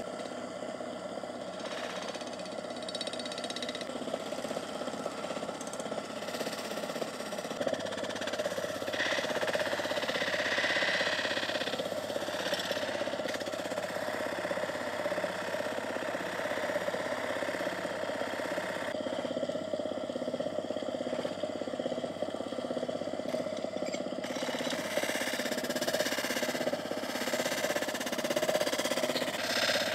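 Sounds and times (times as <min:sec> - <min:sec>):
grinding wheel hiss: 0:00.0 - 0:19.2, 0:22.8 - 0:29.9
electric motor hum: 0:00.0 - 0:29.9.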